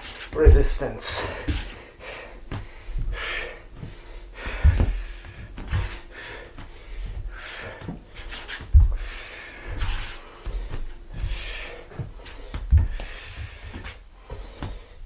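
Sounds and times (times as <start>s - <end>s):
man breathing hard: 1.0s - 15.0s
bare feet thudding on wooden floor: 1.2s - 1.8s, 2.5s - 6.0s, 6.6s - 14.9s.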